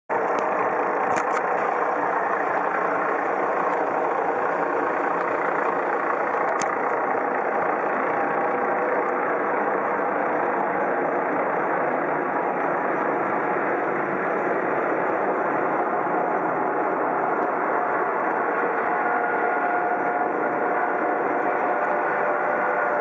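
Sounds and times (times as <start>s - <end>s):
helicopter flying overhead: 0.1s - 23.0s.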